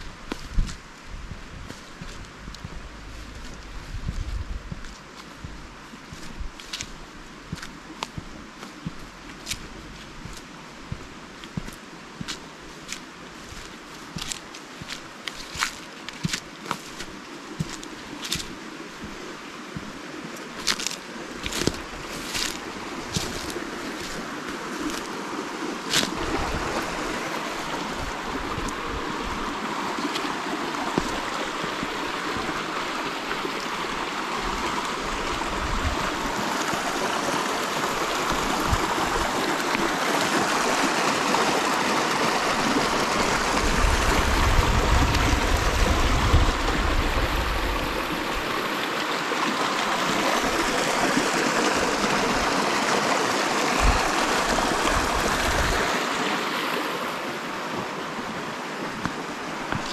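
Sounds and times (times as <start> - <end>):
water gurgling over rocks: 0.0 - 59.9.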